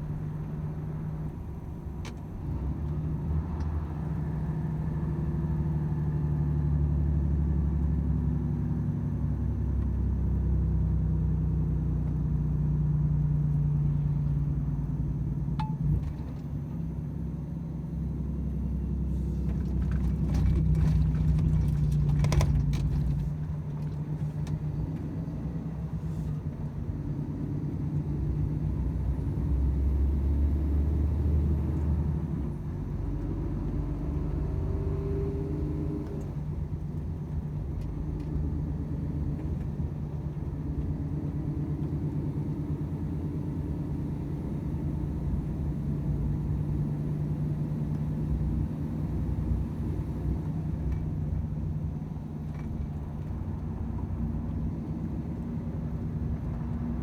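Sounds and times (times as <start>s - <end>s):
road rumble: 0.0s - 57.0s.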